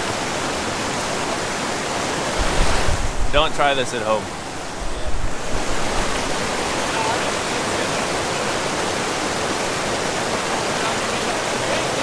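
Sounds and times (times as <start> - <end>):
waterfall roar: 0.0 - 12.0.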